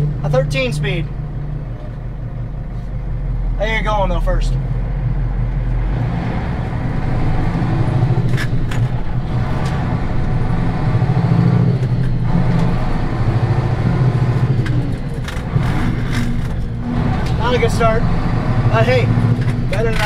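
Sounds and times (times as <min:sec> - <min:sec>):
truck engine accelerating: 0:00.0 - 0:20.0.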